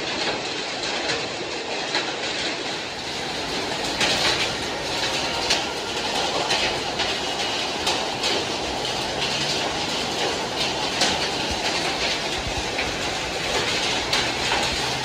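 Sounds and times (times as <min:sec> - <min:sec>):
heavy rain on street: 0:00.0 - 0:15.0
traffic on wet road: 0:00.0 - 0:15.0.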